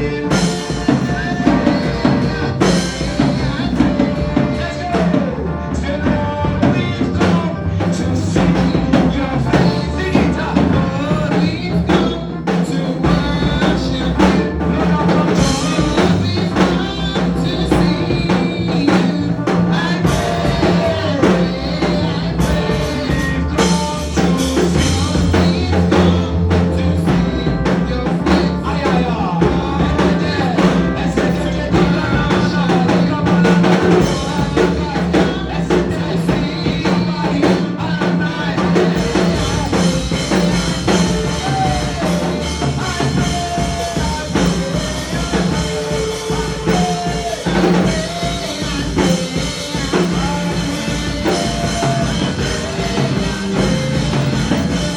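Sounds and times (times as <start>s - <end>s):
bass line: 0.0s - 54.9s
drum kit beat: 0.0s - 54.9s
gospel band music: 0.0s - 54.9s.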